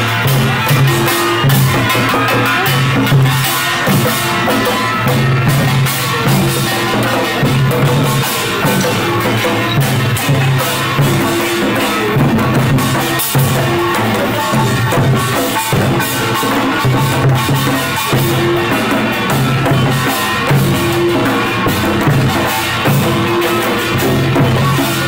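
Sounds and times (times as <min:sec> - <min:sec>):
hand drums struck with sticks: 0:00.0 - 0:25.0
percussion band playing: 0:00.0 - 0:25.0.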